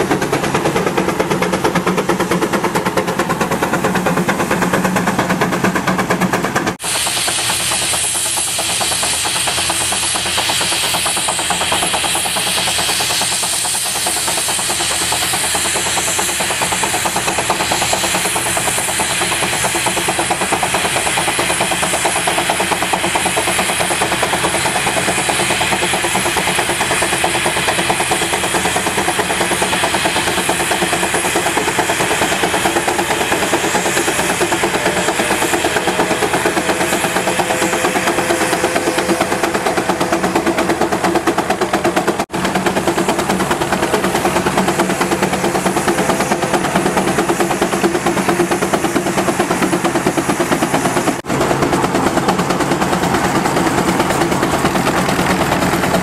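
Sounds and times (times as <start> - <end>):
steam engine exhaust beat: 0.0 - 56.0
steam hissing: 0.0 - 56.0.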